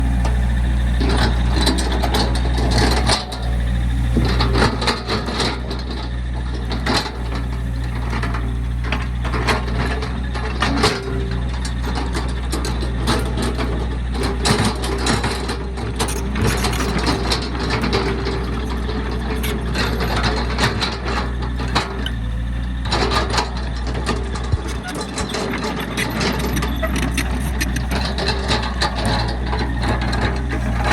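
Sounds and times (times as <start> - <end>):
diesel excavator engine running: 0.0 - 30.9
metallic clanks and rattles: 0.2 - 30.9.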